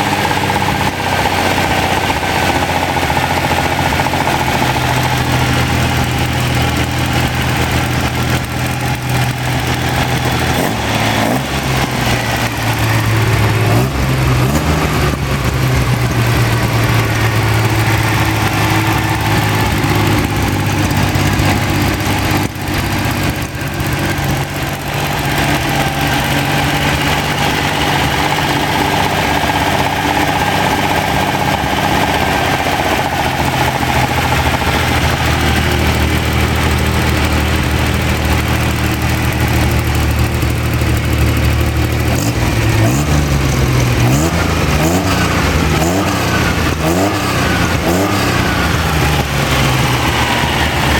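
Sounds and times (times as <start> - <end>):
car engine running and blipped: 0.0 - 50.9.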